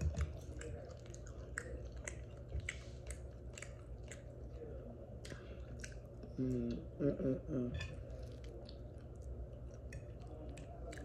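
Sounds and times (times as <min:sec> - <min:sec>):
person chewing food: 0:00.0 - 0:07.0, 0:07.8 - 0:11.0.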